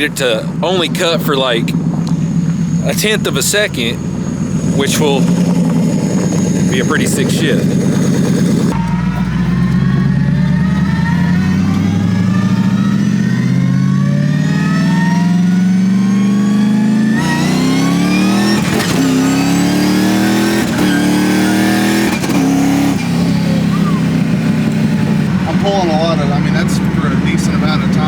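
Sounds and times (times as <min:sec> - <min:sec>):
car engine accelerating hard: 0:00.0 - 0:28.0
engine ignition cut: 0:00.0 - 0:28.0.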